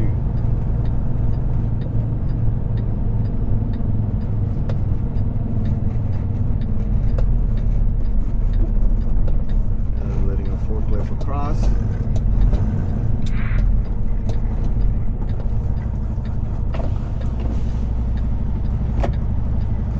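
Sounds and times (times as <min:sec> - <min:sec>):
diesel truck engine drone: 0:00.0 - 0:19.9
light ticks: 0:00.2 - 0:19.9.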